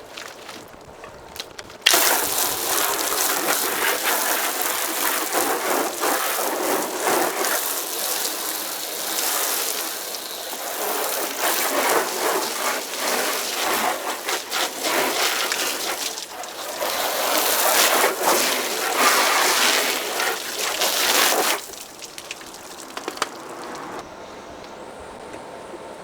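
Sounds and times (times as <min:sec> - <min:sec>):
hose water spraying on car: 0:00.0 - 0:25.9.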